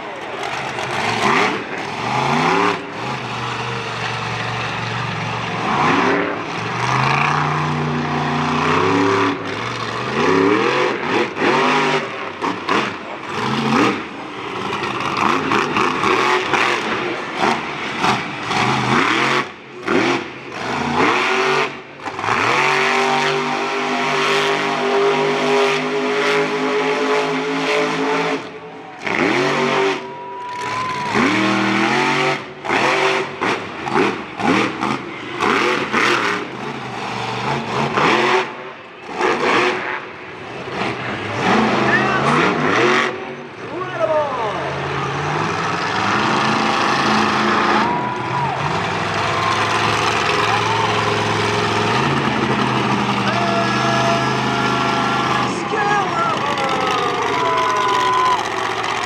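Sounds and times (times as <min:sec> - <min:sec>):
monster truck engine revving: 0:00.0 - 0:59.0.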